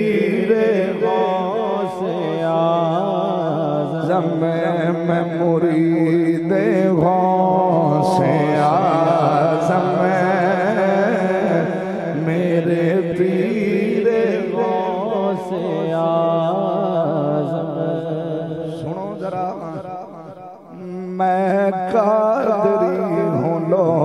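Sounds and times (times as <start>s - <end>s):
man chanting through loudspeakers: 0.0s - 24.0s.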